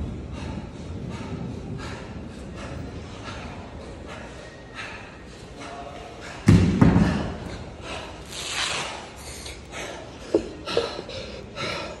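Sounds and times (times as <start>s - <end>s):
hard ragged breathing: 0.0s - 12.0s.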